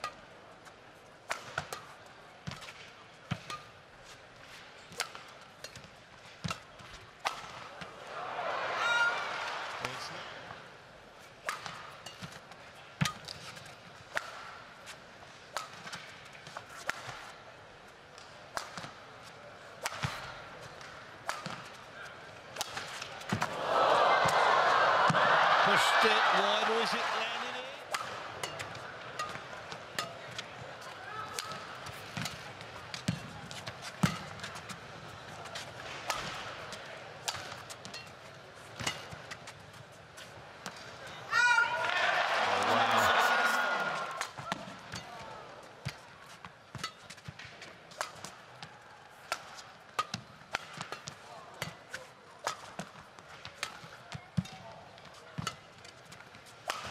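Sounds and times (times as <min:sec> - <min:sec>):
faint arena background: 0:00.0 - 0:56.9
racket hitting shuttlecock: 0:01.2 - 0:08.0, 0:11.4 - 0:17.3, 0:18.2 - 0:19.0, 0:19.8 - 0:21.9, 0:22.5 - 0:23.6, 0:27.8 - 0:56.9.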